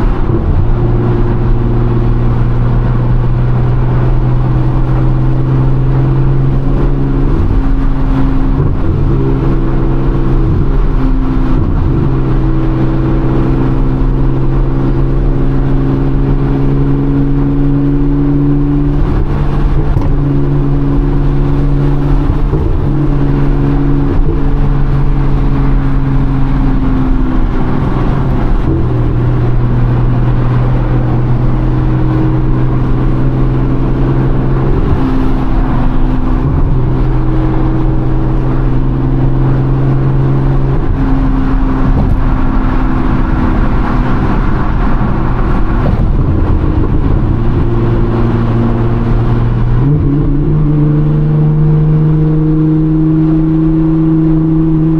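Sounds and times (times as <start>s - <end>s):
car engine droning at cruise: 0.0s - 54.9s
road and tyre noise: 0.0s - 54.9s.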